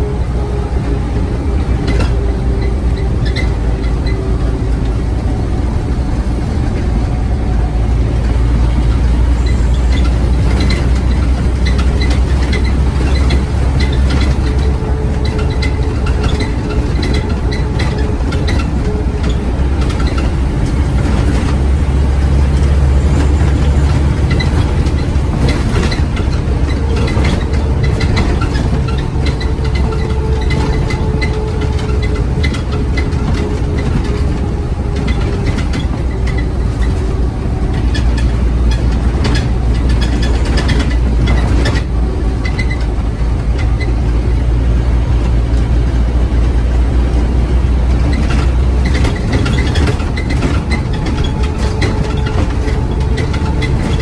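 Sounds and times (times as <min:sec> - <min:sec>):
bodywork rattles: 0:00.0 - 0:54.0
bus diesel engine under load: 0:00.0 - 0:54.0.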